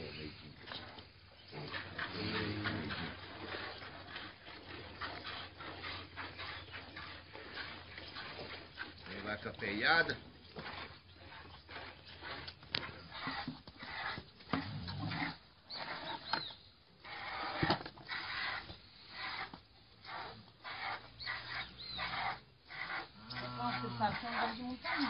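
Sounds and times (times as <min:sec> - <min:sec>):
piglet sucking noises: 0:00.7 - 0:09.1, 0:10.6 - 0:16.2, 0:17.0 - 0:25.0.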